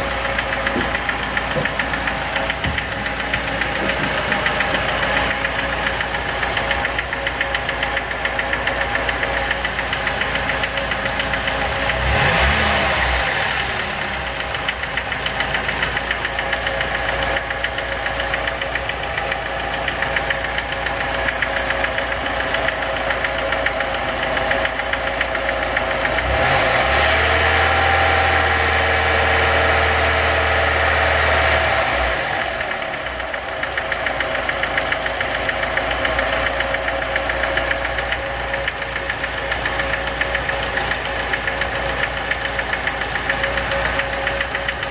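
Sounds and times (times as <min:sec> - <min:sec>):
car engine knocking and revving: 0:00.0 - 0:44.9.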